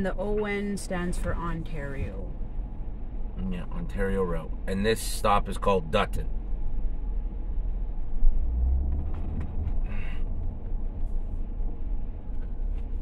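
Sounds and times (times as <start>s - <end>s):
car cabin engine and road rumble: 0.0s - 13.0s.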